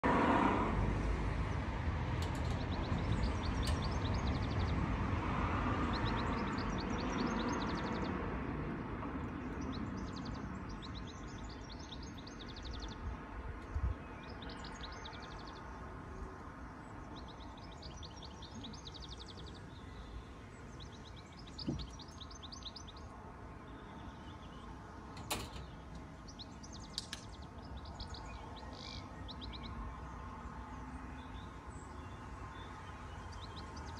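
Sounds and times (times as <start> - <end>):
low traffic rumble: 0.0 - 33.9.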